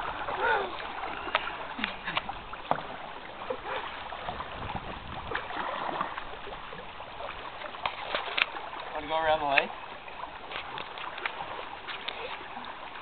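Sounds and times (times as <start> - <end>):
water splashing around canoe: 0.0 - 13.0.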